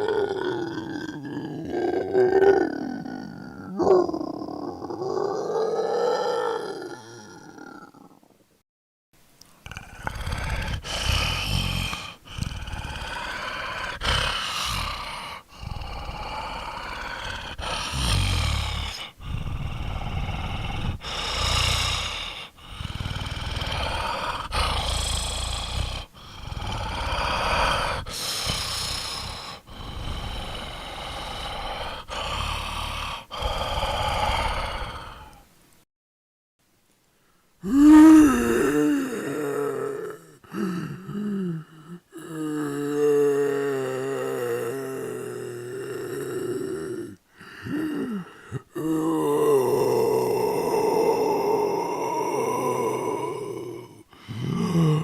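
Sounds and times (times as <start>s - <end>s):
zombie growls and roars: 0.0s - 8.3s, 9.6s - 35.4s, 37.6s - 55.0s.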